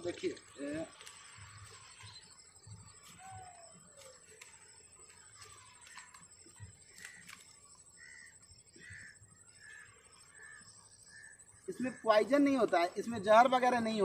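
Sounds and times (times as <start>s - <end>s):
faint bird calls: 0.3s - 12.2s.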